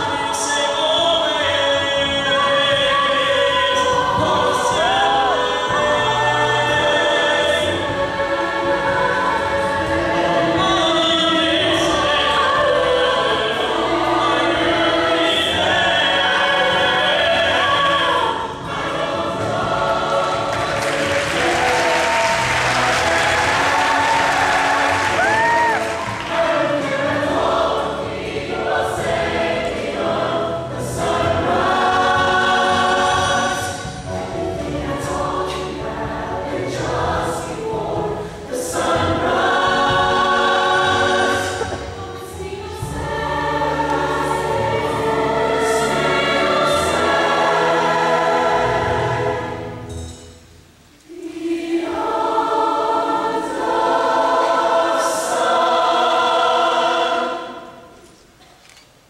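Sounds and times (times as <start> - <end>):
mixed choir singing: 0.0 - 58.2.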